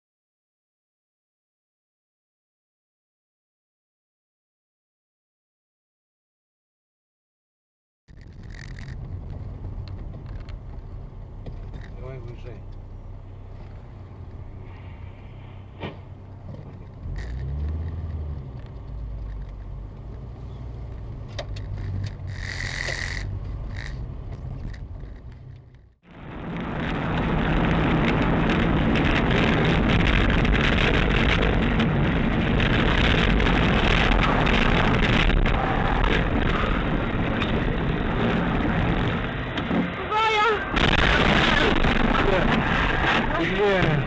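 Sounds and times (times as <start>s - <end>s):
car engine and road rumble: 8.1s - 44.0s
road and wind noise rushing: 8.1s - 44.0s.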